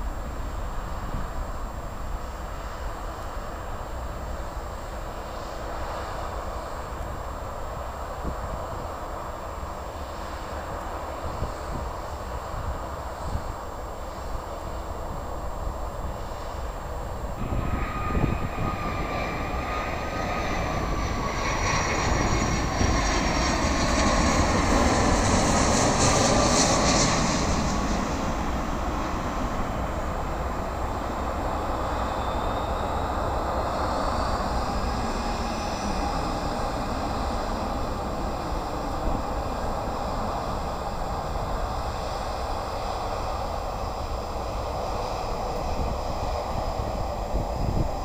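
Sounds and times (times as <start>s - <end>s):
jet airliner passing: 0.0s - 48.0s.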